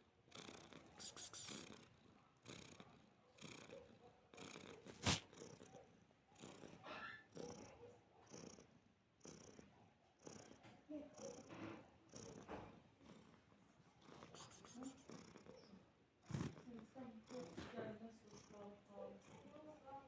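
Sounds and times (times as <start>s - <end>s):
cat purring: 0.3s - 20.0s.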